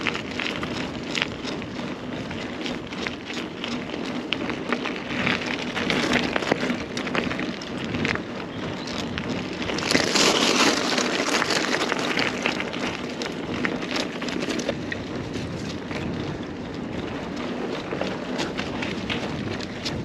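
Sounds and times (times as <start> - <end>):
bike tyres crackling on rough path: 0.0 - 20.0.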